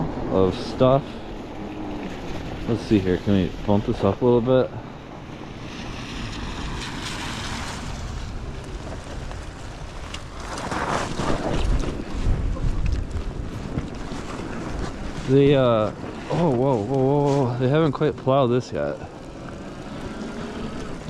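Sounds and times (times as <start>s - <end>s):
wind on microphone: 0.0s - 17.9s
tyres rumbling over snow: 0.0s - 21.0s.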